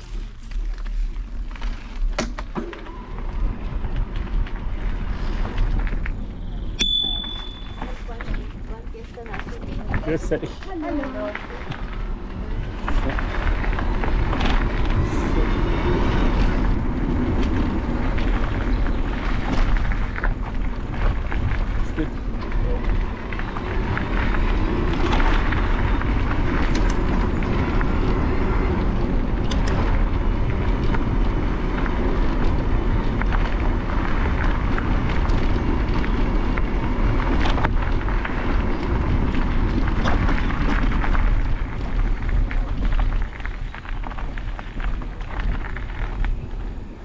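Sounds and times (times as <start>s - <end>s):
tyres crackling over gravel: 0.0s - 2.2s, 3.1s - 6.8s, 7.4s - 47.0s
wind buffeting microphone: 3.2s - 47.0s.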